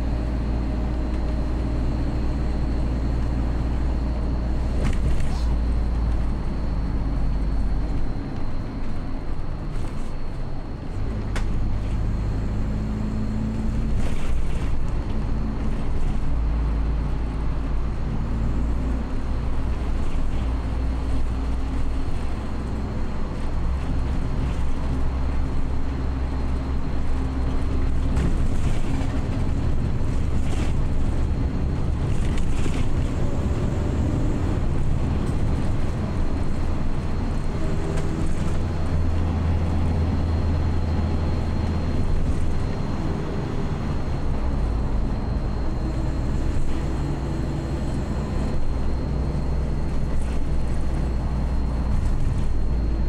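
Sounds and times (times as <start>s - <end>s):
bus engine and road rumble: 0.0s - 53.0s
road and wind hiss: 0.0s - 53.0s.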